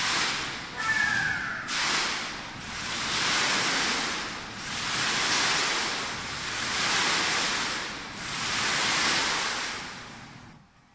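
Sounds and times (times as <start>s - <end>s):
water curtain splashing down: 0.0s - 10.4s.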